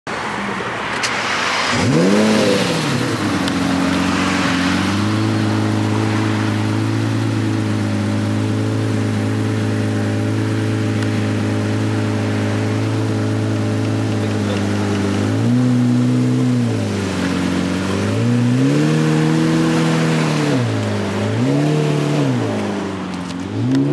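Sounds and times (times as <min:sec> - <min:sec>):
sports car engine revving: 0:00.9 - 0:23.9.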